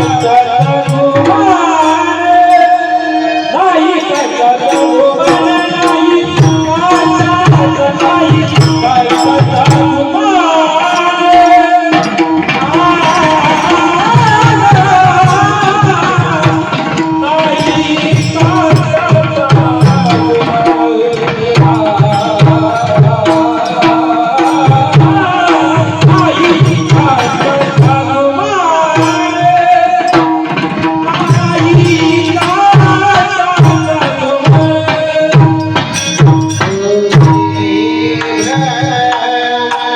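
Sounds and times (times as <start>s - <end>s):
man singing: 0.0s - 39.9s
hand drum beating: 4.0s - 39.9s.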